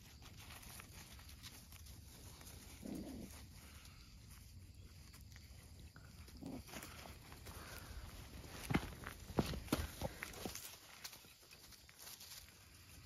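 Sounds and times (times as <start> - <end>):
puppies rustling on pine needles: 0.0 - 13.0.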